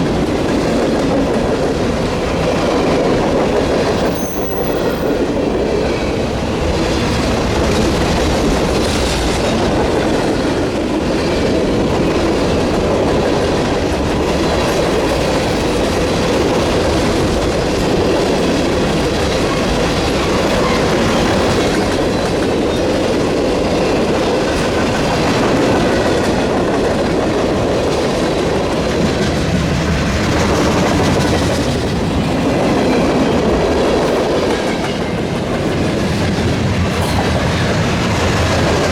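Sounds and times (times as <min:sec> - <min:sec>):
train passing: 0:00.0 - 0:38.9.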